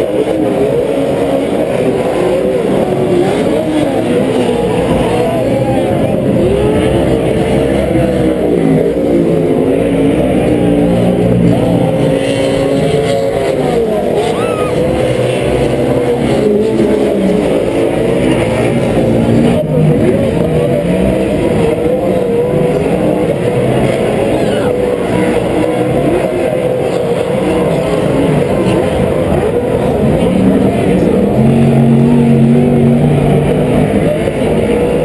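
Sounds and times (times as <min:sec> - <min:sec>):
race truck engines revving: 0:00.0 - 0:35.0.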